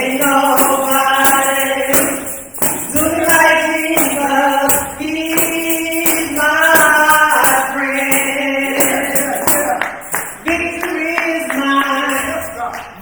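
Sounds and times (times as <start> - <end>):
gospel singing: 0.0 - 13.0
tambourine jingling: 0.0 - 13.0.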